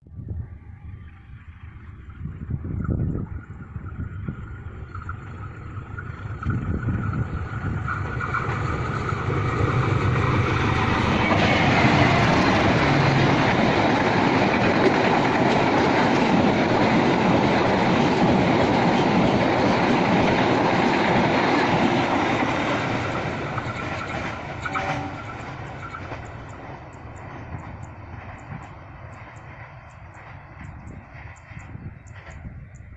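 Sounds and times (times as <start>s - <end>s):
train wheels rumbling on rails: 0.8s - 32.9s.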